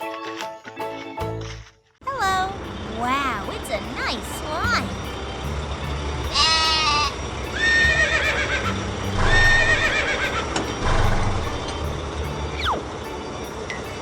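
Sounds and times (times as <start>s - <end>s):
cartoon background music: 0.0s - 14.0s.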